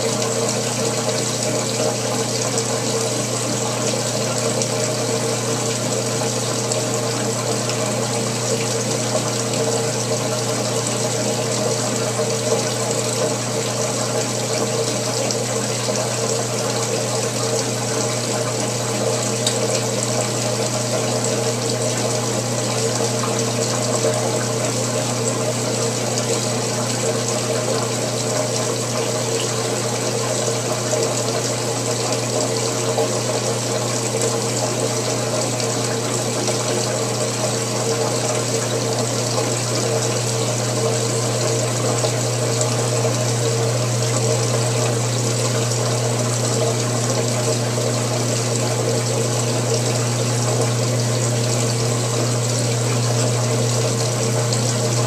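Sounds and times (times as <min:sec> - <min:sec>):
washing machine motor hum: 0:00.0 - 0:55.0
water moving in tub: 0:00.0 - 0:55.0.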